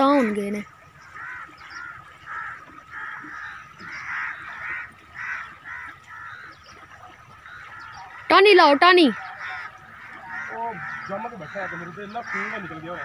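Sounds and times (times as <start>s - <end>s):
birds giving harsh calls: 0.0s - 13.0s.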